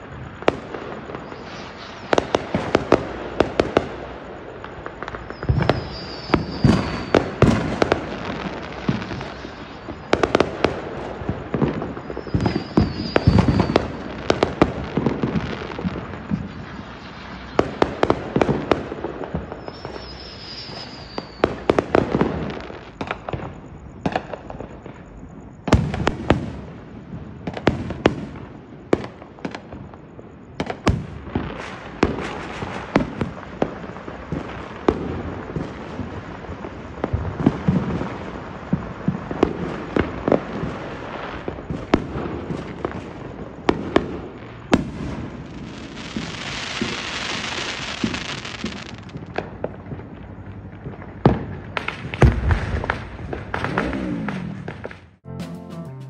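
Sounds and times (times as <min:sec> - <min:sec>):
fireworks bangs and crackling: 0:00.0 - 0:55.9
fireworks falling whistles: 0:00.0 - 0:56.0.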